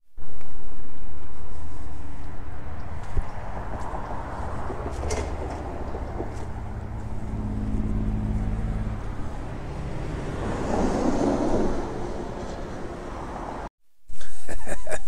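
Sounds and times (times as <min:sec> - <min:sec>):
traffic rushing by: 0:00.3 - 0:13.7
vehicle engine hum: 0:00.3 - 0:13.7.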